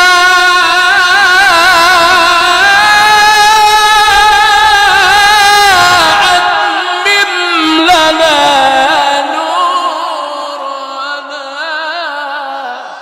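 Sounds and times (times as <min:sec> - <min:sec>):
man reciting with melismatic trills: 0:00.0 - 0:13.0.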